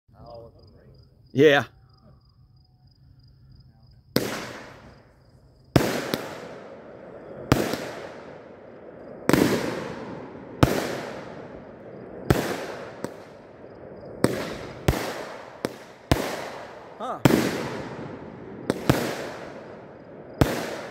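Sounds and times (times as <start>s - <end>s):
crickets trilling: 0.1s - 20.9s
fireworks bangs: 4.1s - 20.9s
fireworks crackle and hiss: 4.2s - 20.9s.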